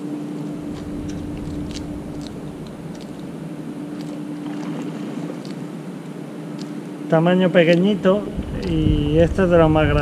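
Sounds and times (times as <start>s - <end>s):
distant motor humming: 0.0s - 10.0s.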